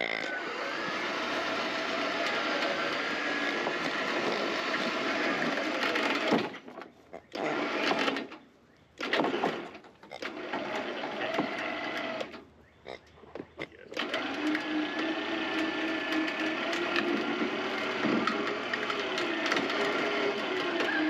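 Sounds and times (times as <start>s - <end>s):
electric winch motor whining: 0.0s - 6.6s, 7.4s - 8.4s, 9.0s - 12.4s, 14.0s - 21.0s.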